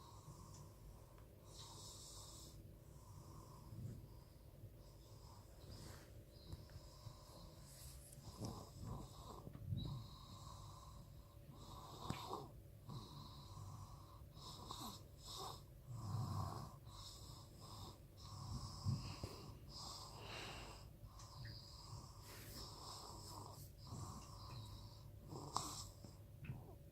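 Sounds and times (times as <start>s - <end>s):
soft uneven snoring: 0.0s - 26.9s.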